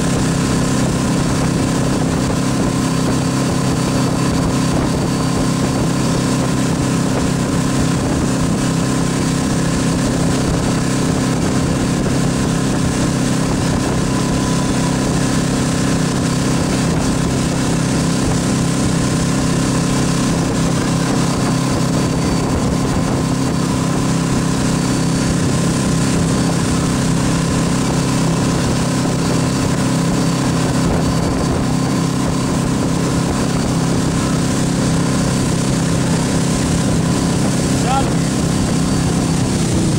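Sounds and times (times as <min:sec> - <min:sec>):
boat engine running: 0:00.0 - 0:39.9
rushing wake water: 0:00.0 - 0:39.9.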